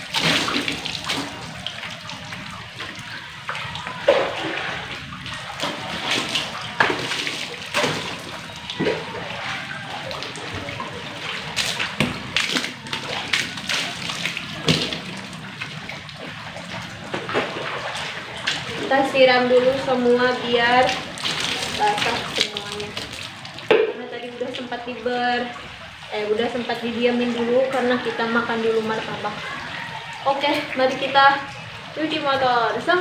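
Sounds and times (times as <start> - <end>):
water splashing on concrete: 0.0 - 33.0.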